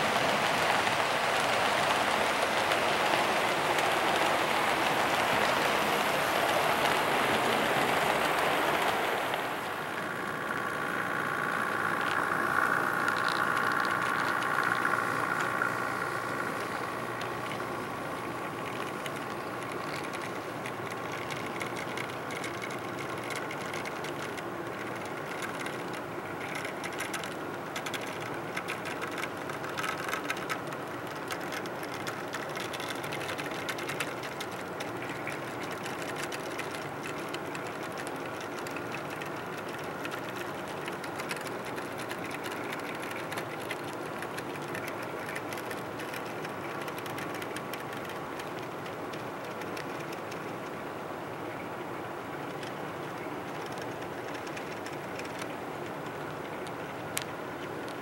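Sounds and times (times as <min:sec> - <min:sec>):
faint steady whine: 0:00.0 - 0:58.0.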